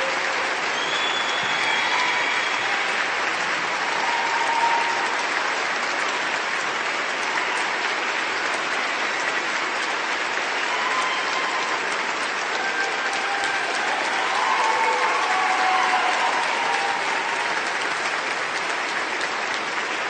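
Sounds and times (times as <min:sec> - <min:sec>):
crowd applause: 0:00.0 - 0:20.0.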